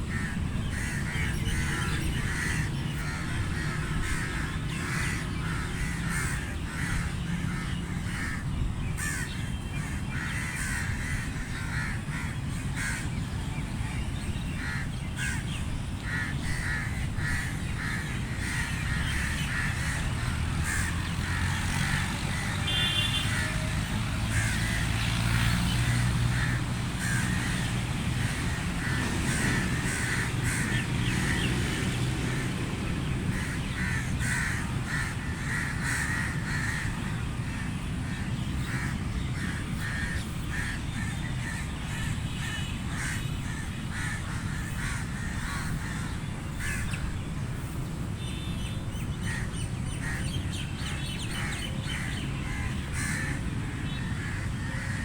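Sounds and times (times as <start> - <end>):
crows cawing: 0.0 - 13.2, 14.6 - 32.5, 33.3 - 47.2, 49.2 - 55.0
outdoor background noise: 0.0 - 55.0.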